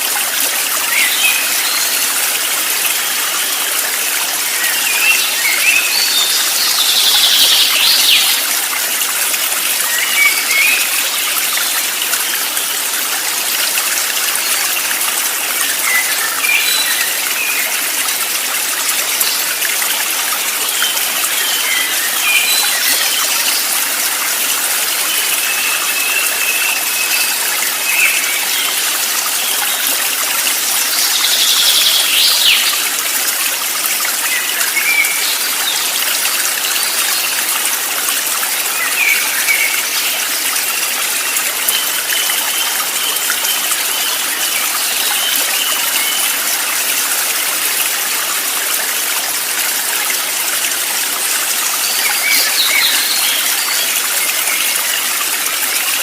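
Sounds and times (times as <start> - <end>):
running water stream: 0.0 - 56.0.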